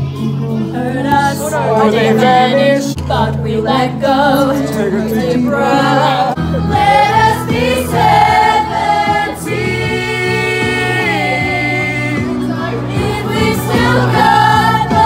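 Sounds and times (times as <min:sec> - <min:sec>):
recorded music: 0:00.0 - 0:15.0
young voices singing together: 0:00.0 - 0:15.0.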